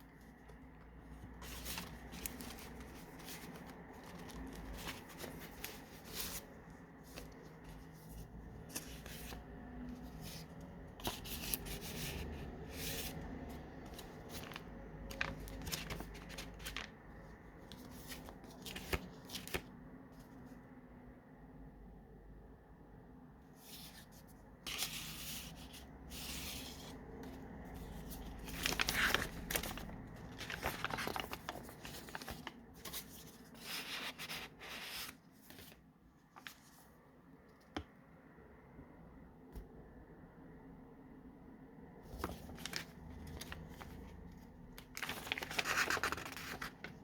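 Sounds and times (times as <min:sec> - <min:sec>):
paper pages rustling and crinkling: 0:00.0 - 0:20.4, 0:23.6 - 0:37.0, 0:42.0 - 0:47.0.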